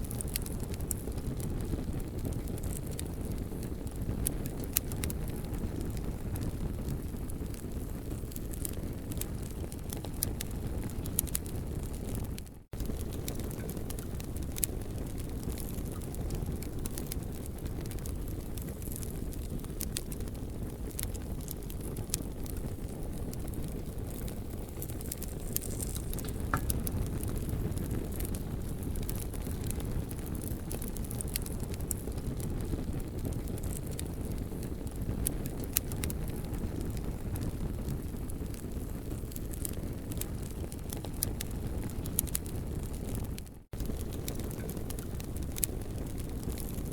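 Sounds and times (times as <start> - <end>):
campfire crackling: 0.0 - 46.9
fire snaps and pops: 0.0 - 46.9.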